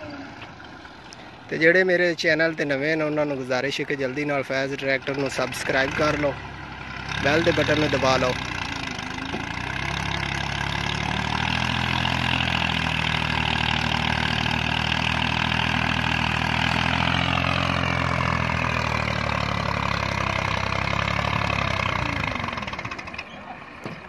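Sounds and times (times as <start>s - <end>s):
tractor diesel engine running hard: 0.0s - 24.0s.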